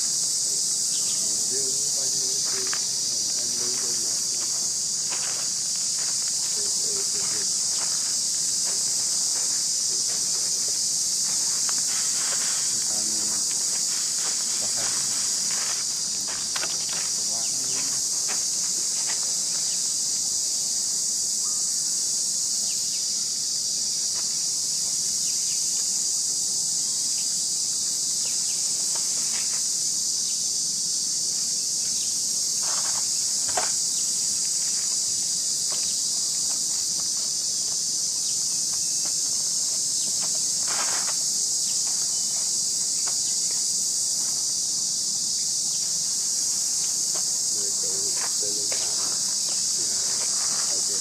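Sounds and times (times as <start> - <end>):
insect chorus buzzing: 0.0 - 51.0.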